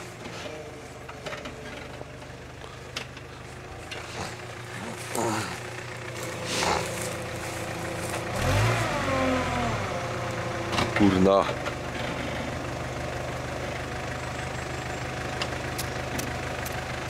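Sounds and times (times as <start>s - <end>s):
off-road vehicle engine: 0.0s - 17.0s.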